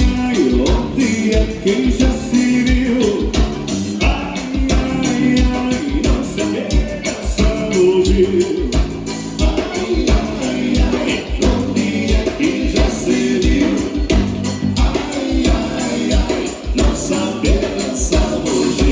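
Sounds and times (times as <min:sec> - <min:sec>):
accordion-led band dance music: 0:00.0 - 0:18.9.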